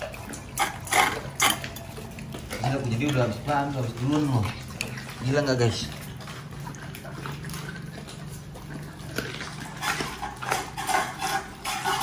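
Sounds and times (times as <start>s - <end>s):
dogs chewing wetly: 0.0s - 12.0s.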